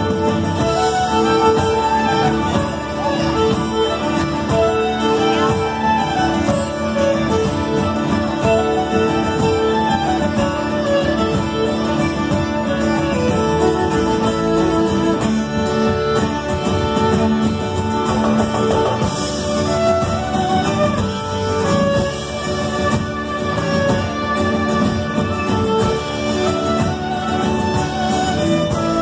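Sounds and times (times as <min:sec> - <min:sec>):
electric guitars: 0:00.0 - 0:29.0
fiddle: 0:00.0 - 0:29.0
upright double bass: 0:00.0 - 0:29.0.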